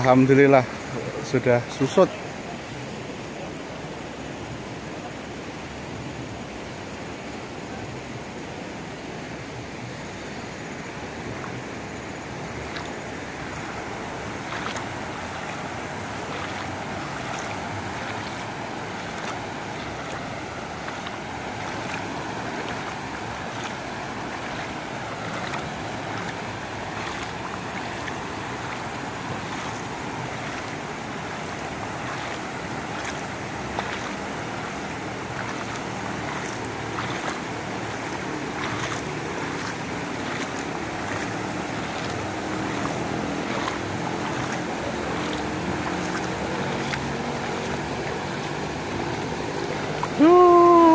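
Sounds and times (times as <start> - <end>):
river rushing: 0.0 - 50.9.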